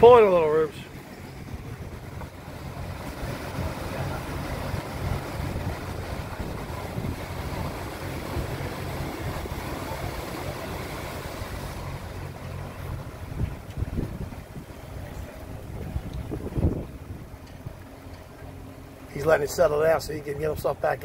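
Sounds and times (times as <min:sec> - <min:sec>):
boat engine running: 0:00.0 - 0:21.0
water rushing into lock: 0:00.0 - 0:21.0.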